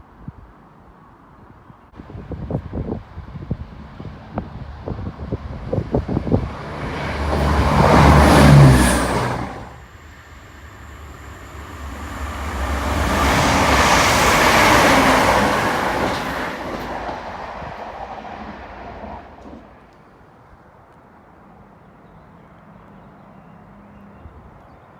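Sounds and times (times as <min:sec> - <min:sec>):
diesel train passing at speed: 0:01.9 - 0:24.5.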